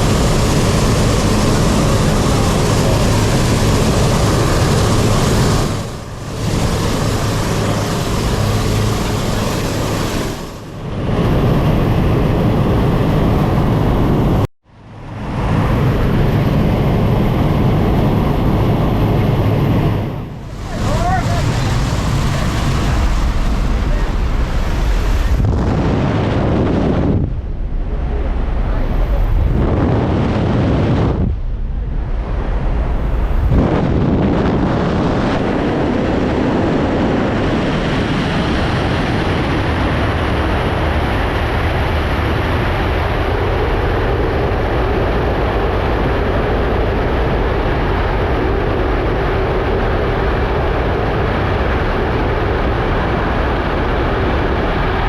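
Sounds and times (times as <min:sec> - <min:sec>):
plane engines roaring: 0:00.0 - 0:55.0
wind buffeting microphone: 0:00.0 - 0:55.0.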